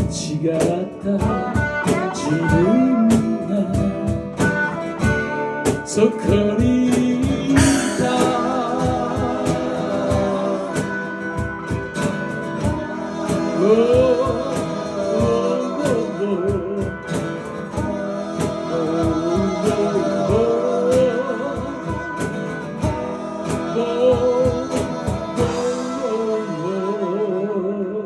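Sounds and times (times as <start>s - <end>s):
steady drum beat: 0.0s - 26.1s
live band playing: 0.0s - 27.4s
bending melody line: 0.4s - 28.0s.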